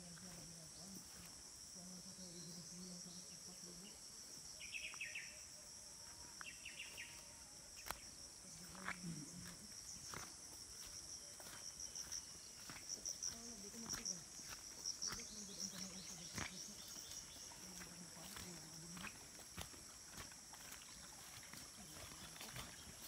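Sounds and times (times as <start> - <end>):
crickets and insects trilling: 0.0 - 23.0.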